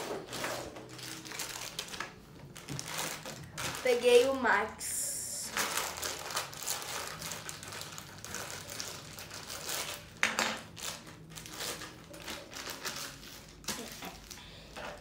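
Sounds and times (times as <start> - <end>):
plastic wrapper crinkling: 0.0 - 4.4, 5.4 - 15.0.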